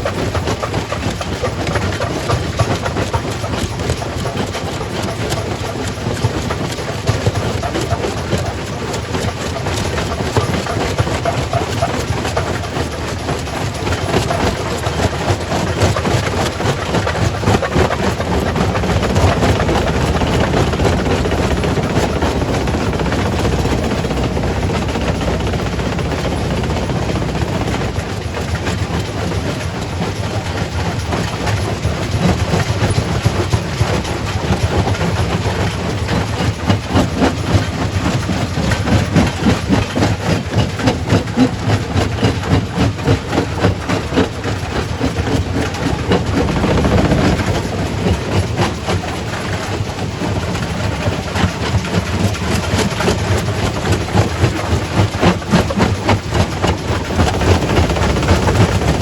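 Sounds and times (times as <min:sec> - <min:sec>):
rock crusher clattering: 0:00.6 - 0:29.3, 0:37.2 - 0:49.6, 0:51.4 - 0:59.0
low machine rumble: 0:05.0 - 0:42.7, 0:43.4 - 0:59.0.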